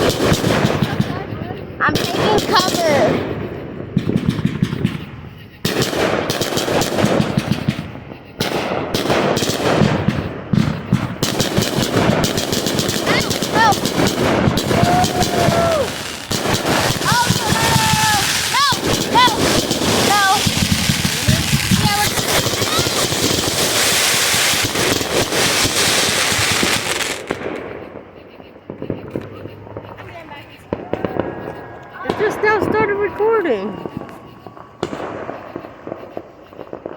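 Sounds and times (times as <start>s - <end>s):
fireworks banging: 0.0s - 36.9s.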